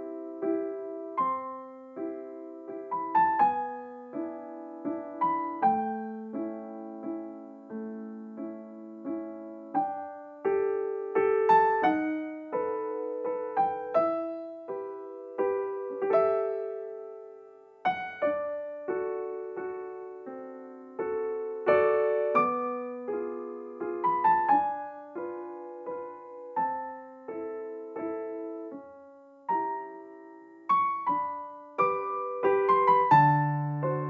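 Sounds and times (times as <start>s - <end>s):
gentle solo piano music: 0.0s - 34.0s.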